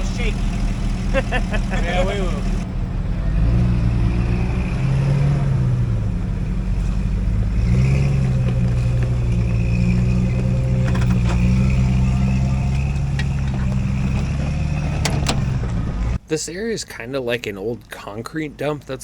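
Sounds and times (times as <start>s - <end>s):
off-road vehicle engine revving: 0.0s - 16.2s.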